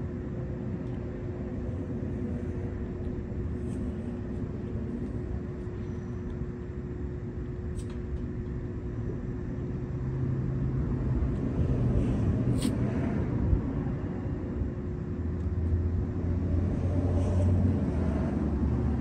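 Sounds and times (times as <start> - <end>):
low rumble with hum: 0.0 - 19.0.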